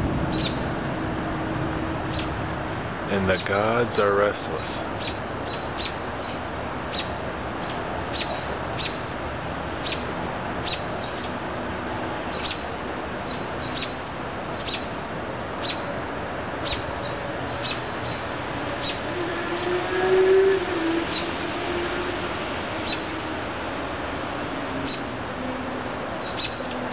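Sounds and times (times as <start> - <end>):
low rushing background: 0.0 - 26.9.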